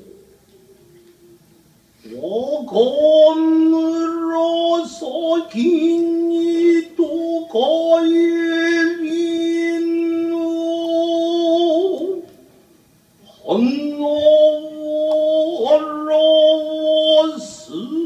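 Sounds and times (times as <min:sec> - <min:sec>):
person singing long held notes: 0:02.0 - 0:12.4, 0:13.2 - 0:18.0.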